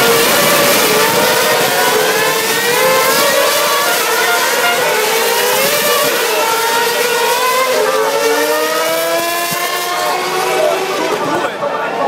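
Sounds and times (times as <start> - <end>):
racing car engines accelerating: 0.0 - 12.0.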